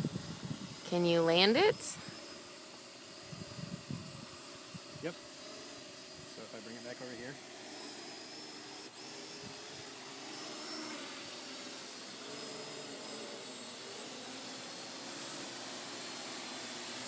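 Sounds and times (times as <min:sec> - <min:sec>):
quadcopter propellers whirring: 0:00.0 - 0:17.0.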